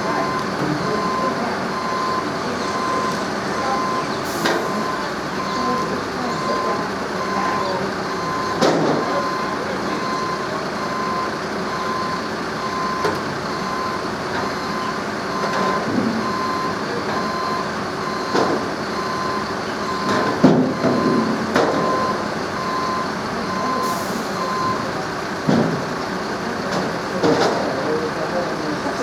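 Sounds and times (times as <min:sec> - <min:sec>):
vehicle reversing alarm beeping: 0:00.0 - 0:29.0.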